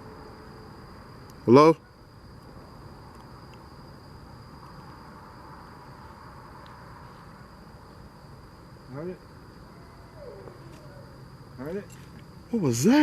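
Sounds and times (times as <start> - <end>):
faint hiss: 0.0 - 13.0
insects droning: 0.0 - 13.0.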